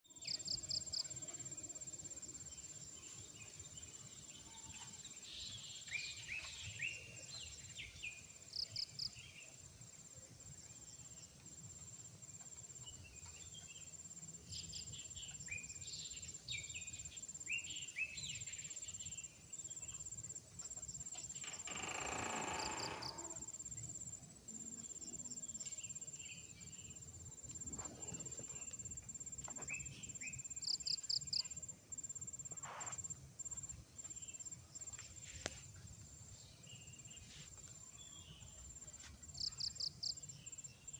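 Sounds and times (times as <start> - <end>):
insects and crickets trilling: 0.1 - 40.9.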